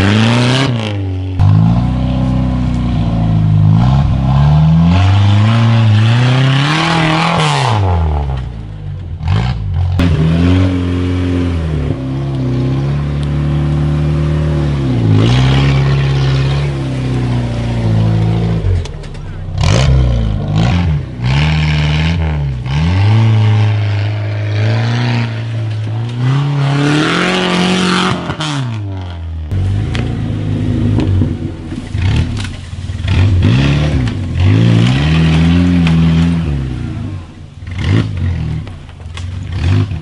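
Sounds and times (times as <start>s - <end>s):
off-road engine revving: 0.0s - 40.0s.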